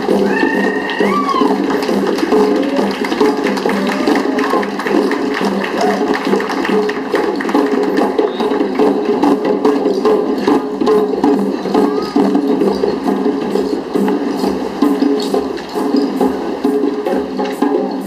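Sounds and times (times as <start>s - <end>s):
music with quick percussion: 0.0s - 18.0s.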